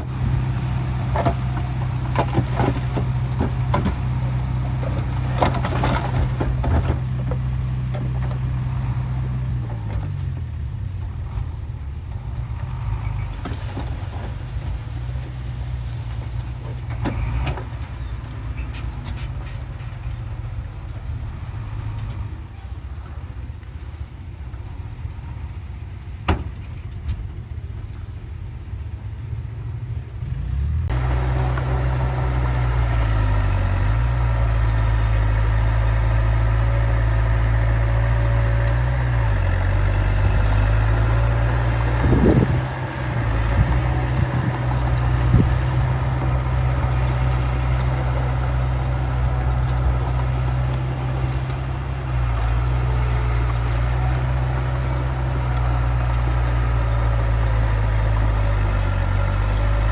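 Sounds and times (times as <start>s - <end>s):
diesel machinery engine drone: 0.0s - 59.9s.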